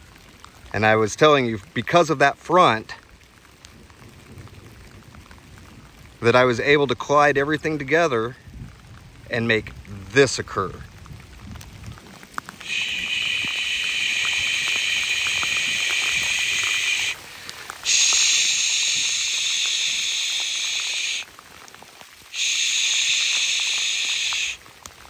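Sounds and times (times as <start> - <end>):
heavy rain on a lake: 0.0 - 25.0.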